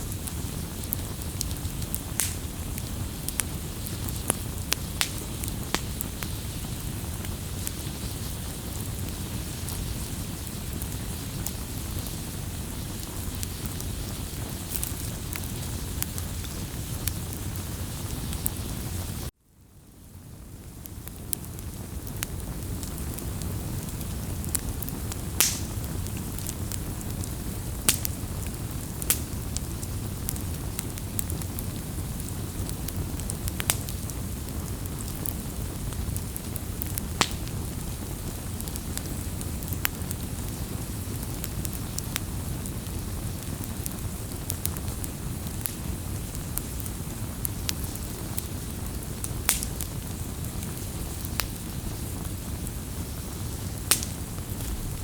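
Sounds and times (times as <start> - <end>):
burning wood crackling and popping: 0.0 - 55.0
low rumble of flames: 0.0 - 55.0.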